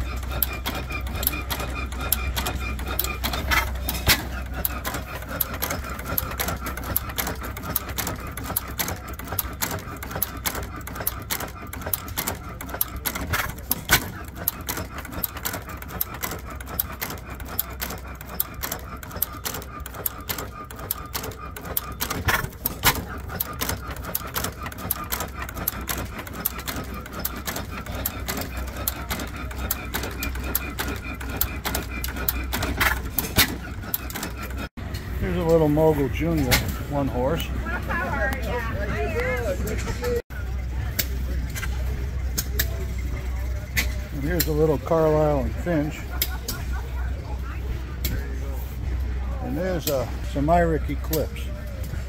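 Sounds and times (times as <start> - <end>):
mechanical clicking and clatter: 0.0 - 52.0
stationary gas engine running: 0.0 - 52.0.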